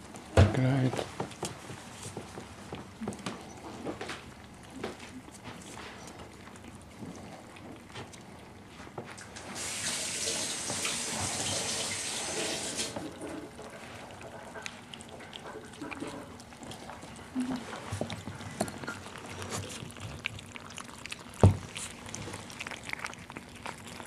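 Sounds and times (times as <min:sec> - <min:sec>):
puppies crunching biscuits: 0:00.0 - 0:24.0.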